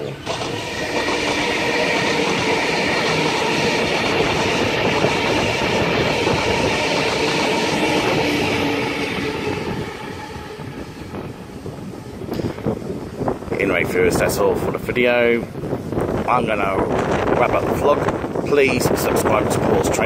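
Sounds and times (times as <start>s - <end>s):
electric train whine: 0.0s - 20.0s
train wheels rumbling and clacking: 0.0s - 20.0s.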